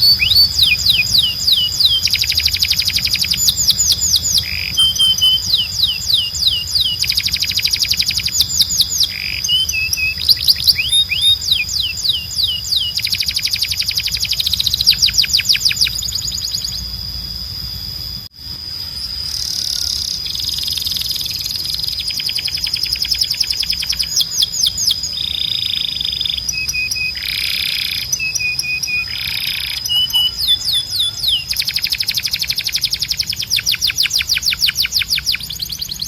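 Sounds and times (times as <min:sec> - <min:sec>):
canary singing: 0:00.0 - 0:36.0
steady high-pitched tone: 0:00.0 - 0:36.0.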